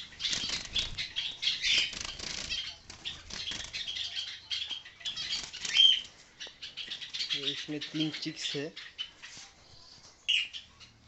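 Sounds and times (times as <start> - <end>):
small birds chirping and chattering: 0.0 - 11.0.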